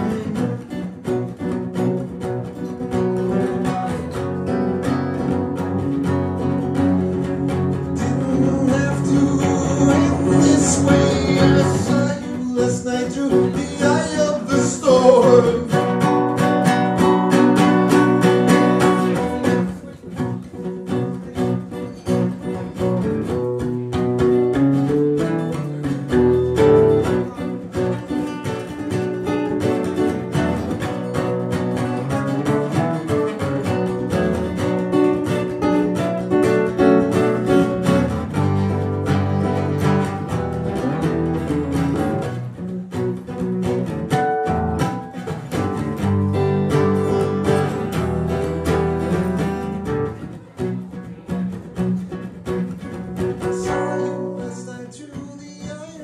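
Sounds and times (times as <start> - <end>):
acoustic guitars strumming: 0.0 - 56.0.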